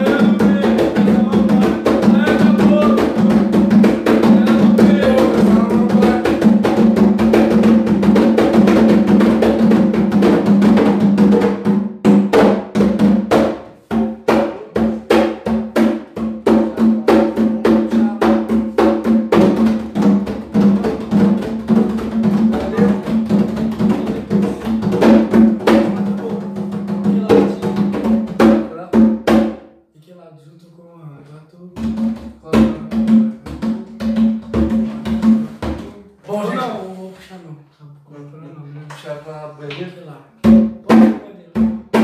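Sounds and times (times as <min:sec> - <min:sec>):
hand drums playing: 0:00.0 - 0:29.7, 0:31.8 - 0:36.5, 0:40.4 - 0:42.0.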